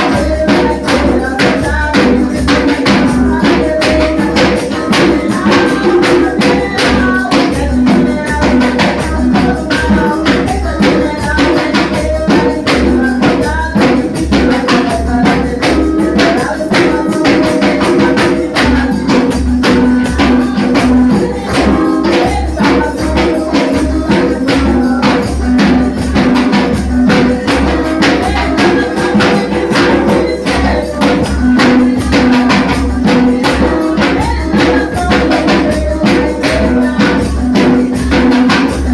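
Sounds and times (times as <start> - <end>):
tambourine beat: 0.0 - 38.9.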